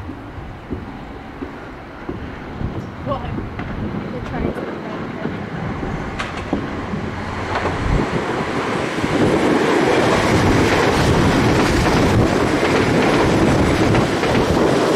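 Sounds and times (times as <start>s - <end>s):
train running past: 0.0s - 14.9s.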